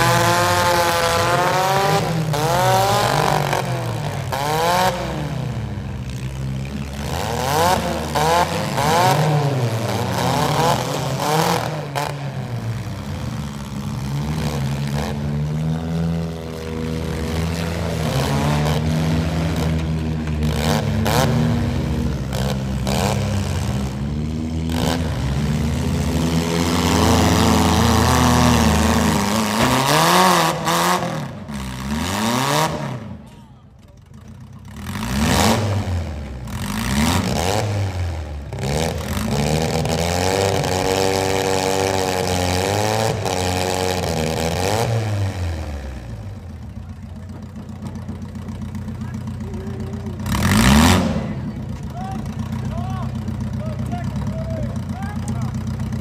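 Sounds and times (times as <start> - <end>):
engines revving hard: 0.0 - 33.2, 34.6 - 56.0.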